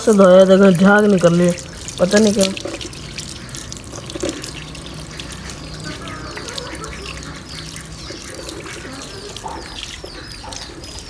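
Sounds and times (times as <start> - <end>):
small birds chirping: 0.0 - 11.0
water trickling: 0.0 - 11.0.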